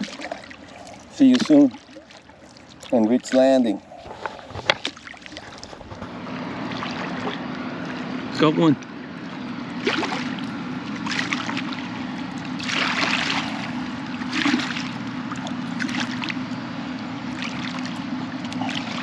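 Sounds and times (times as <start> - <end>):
steady low hum: 0.0 - 19.0
water splashing at a canoe: 0.0 - 19.0.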